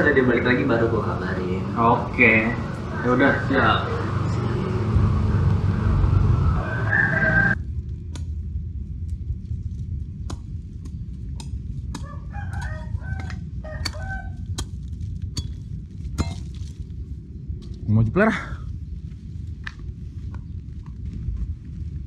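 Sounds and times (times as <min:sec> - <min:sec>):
loud low rumble: 0:00.0 - 0:22.0
quiet low hum: 0:00.0 - 0:22.0.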